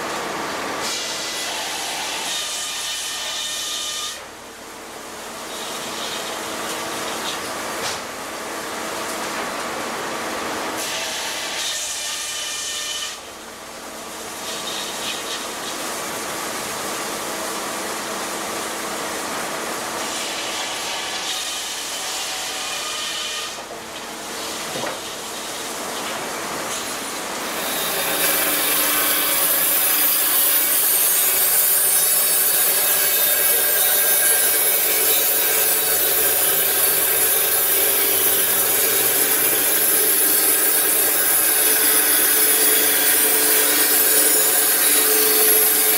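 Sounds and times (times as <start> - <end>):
band sawmill cutting log: 0.0 - 45.9
large circular saw cutting boards: 0.0 - 45.9.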